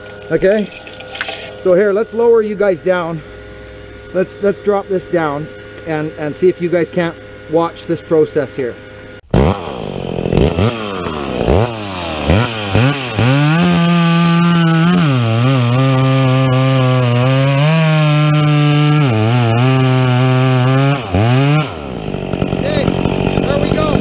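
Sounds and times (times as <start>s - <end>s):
chainsaw revving and cutting: 2.3s - 24.0s.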